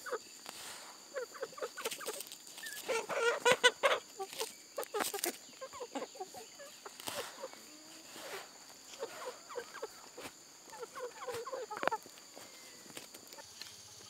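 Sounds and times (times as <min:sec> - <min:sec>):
high insect drone: 0:00.0 - 0:14.0
chickens clucking softly: 0:01.1 - 0:13.6.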